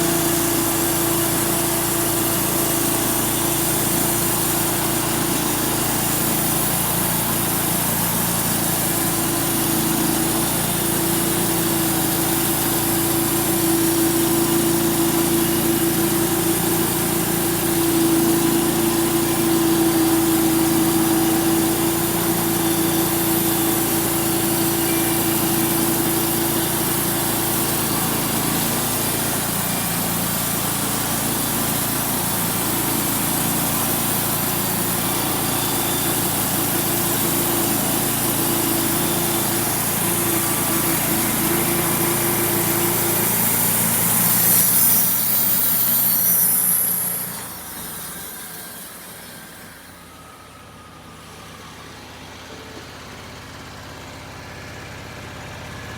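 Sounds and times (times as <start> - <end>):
band saw blade cutting log: 0.0 - 50.2
sawmill engine running: 0.0 - 55.9.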